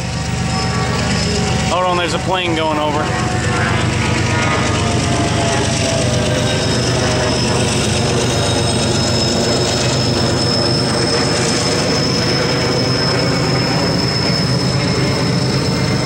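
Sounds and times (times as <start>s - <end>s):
low train rumble: 0.0s - 16.0s
train wheels squealing: 0.0s - 16.0s.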